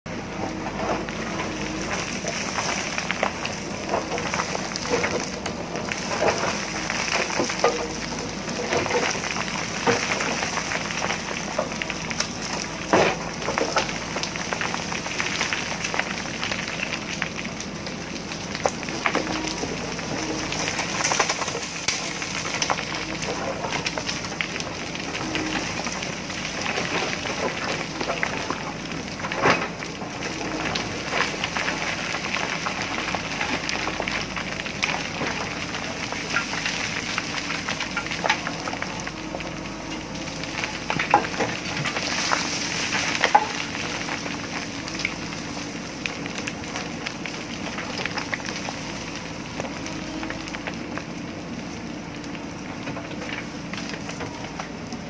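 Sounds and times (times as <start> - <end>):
diesel engine running: 0.1 - 55.0
rocks and earth scraped by bucket: 0.5 - 51.2.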